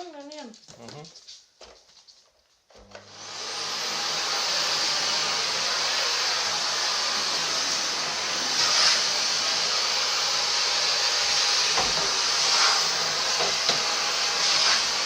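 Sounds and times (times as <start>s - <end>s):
vacuum cleaner running: 2.8s - 15.0s.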